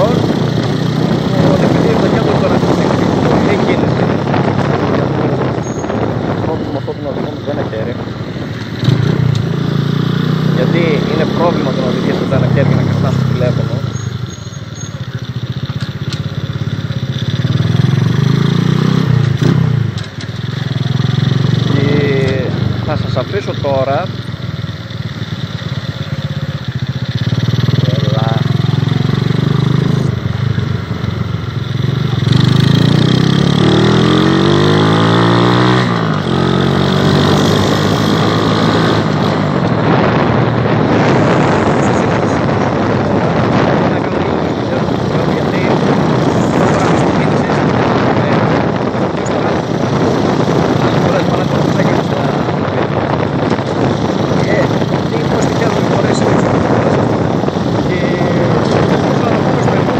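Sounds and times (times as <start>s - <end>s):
wind buffeting microphone: 0.0s - 14.3s, 17.3s - 59.9s
motorcycle engine running: 0.0s - 59.9s.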